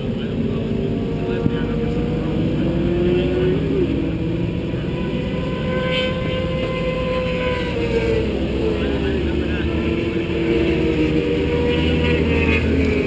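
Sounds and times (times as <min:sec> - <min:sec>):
vehicle engine at speed: 0:00.0 - 0:13.0
wind and road noise: 0:00.0 - 0:13.0.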